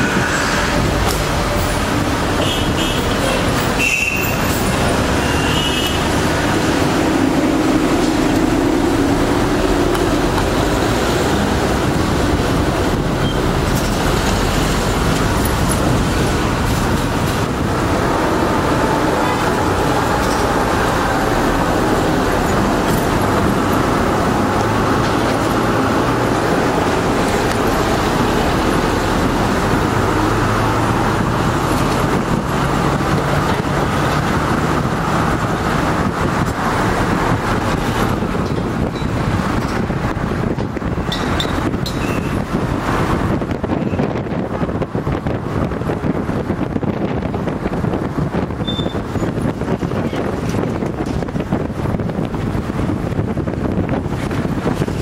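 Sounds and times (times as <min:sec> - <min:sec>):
road traffic: 0:00.0 - 0:55.0.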